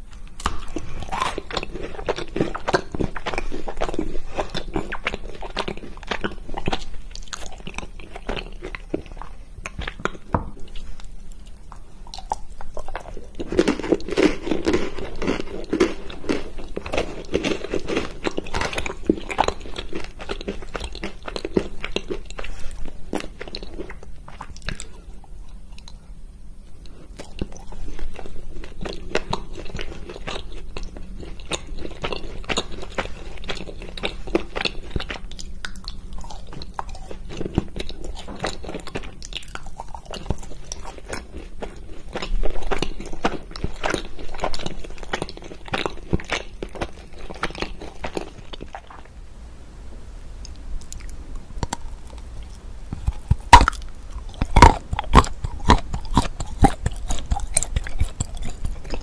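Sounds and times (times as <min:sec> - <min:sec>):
person chewing chocolate: 0:00.0 - 0:49.1, 0:50.4 - 0:59.0.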